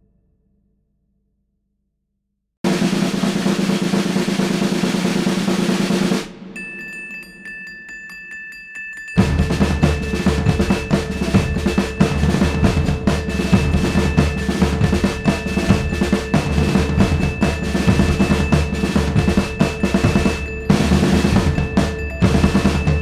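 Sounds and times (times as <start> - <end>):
music with fast drum beat: 2.7 - 23.0.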